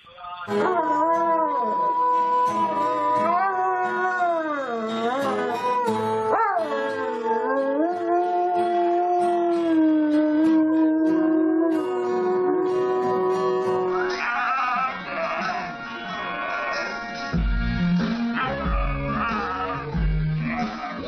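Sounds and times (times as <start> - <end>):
dog howling: 0.5 - 17.1, 18.4 - 21.0.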